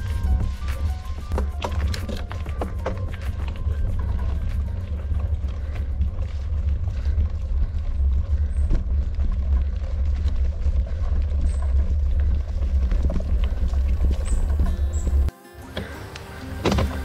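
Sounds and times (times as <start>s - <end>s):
bike clicks and rattles: 0.0s - 15.3s
bike tyres rolling on gravel: 0.0s - 15.3s.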